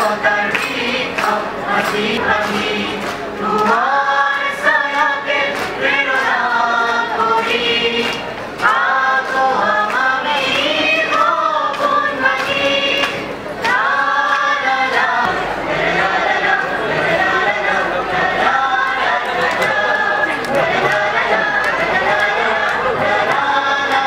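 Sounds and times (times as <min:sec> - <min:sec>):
group singing in chorus: 0:00.0 - 0:24.0.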